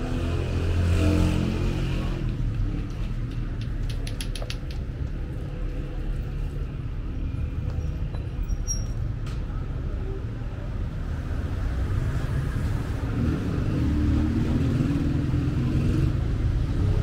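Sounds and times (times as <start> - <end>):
street traffic rumbling: 0.0 - 17.0.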